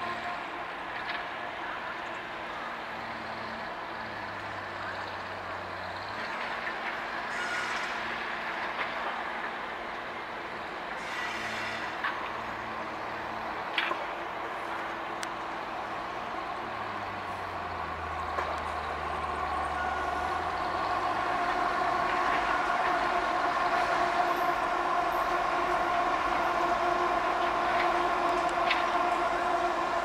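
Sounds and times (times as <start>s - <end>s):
diesel locomotive approaching: 0.0s - 30.0s
steady engine tones: 0.0s - 30.0s.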